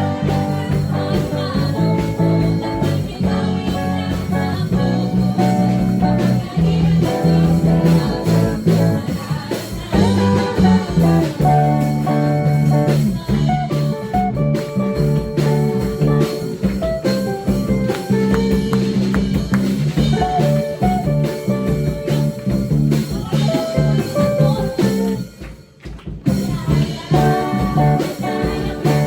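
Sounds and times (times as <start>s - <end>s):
praise and worship music: 0.0s - 29.0s.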